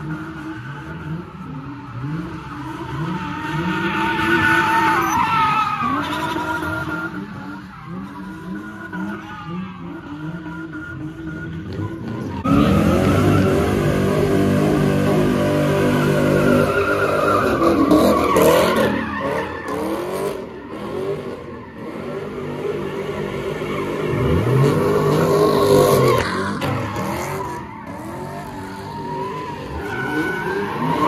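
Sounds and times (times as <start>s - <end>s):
car engine revving: 0.0s - 31.0s
tires squealing: 0.0s - 31.0s.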